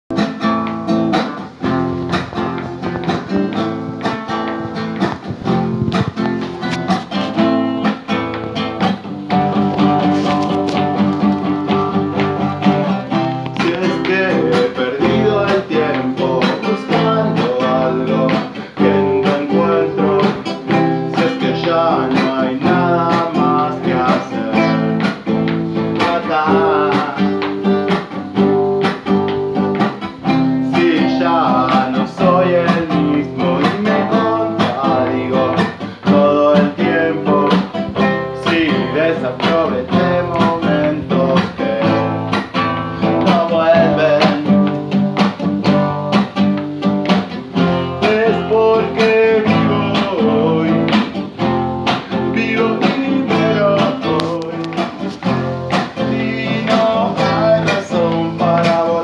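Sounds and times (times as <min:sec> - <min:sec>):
classical guitar accompaniment: 0:00.1 - 0:59.0
man singing: 0:01.1 - 0:46.3, 0:47.4 - 0:59.0.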